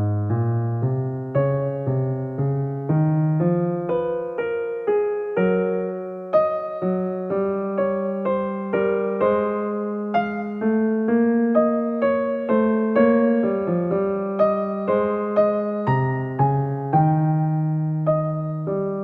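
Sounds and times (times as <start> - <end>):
gentle electric piano notes: 0.0 - 19.0.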